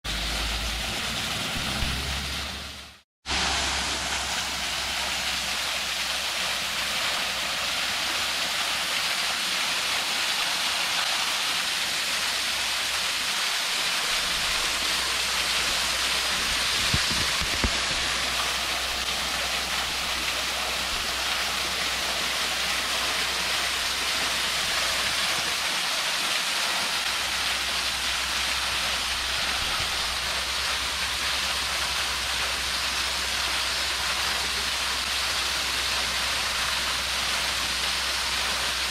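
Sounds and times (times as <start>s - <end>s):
small waterfall splashing: 0.1s - 38.9s.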